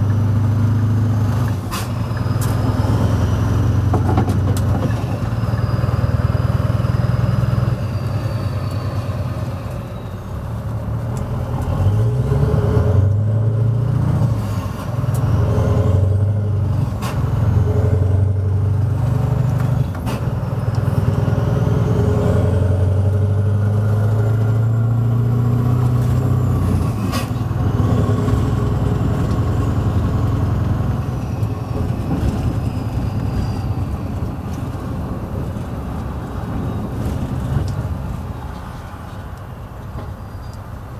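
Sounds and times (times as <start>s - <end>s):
truck engine with loud exhaust: 0.0s - 40.9s.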